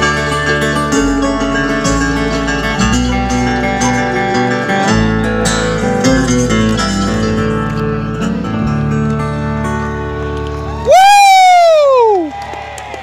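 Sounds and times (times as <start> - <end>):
acoustic guitar picking: 0.0 - 10.7
bass notes: 0.0 - 11.1.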